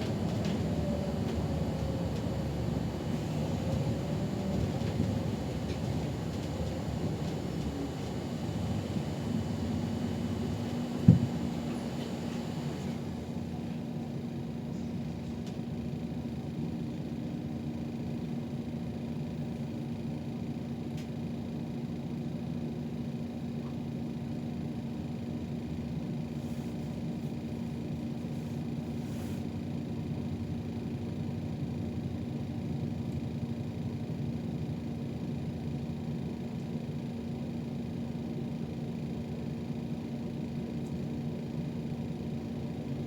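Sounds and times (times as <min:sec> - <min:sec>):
bus engine rumble and hum: 0:00.0 - 0:43.0.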